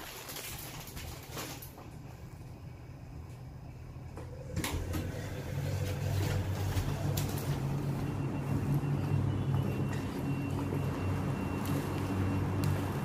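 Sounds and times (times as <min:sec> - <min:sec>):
steady low hum: 0:01.7 - 0:13.0.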